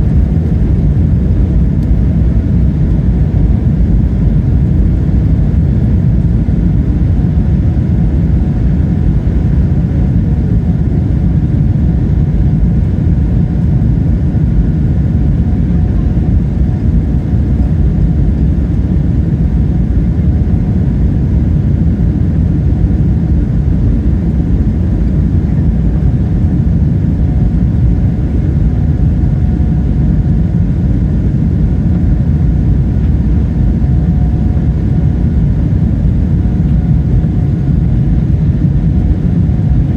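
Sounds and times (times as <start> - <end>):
faint steady whine: 0.0 - 39.9
jet engine roar in cabin: 0.0 - 39.9.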